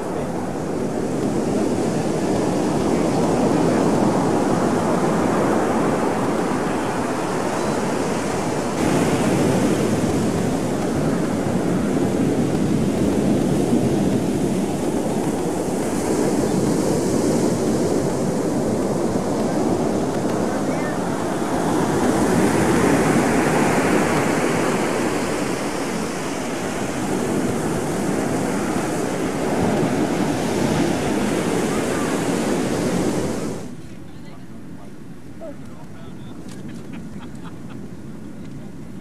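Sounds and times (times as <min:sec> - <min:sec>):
ocean surf rushing: 0:00.0 - 0:38.2
wind on microphone: 0:00.0 - 0:39.0.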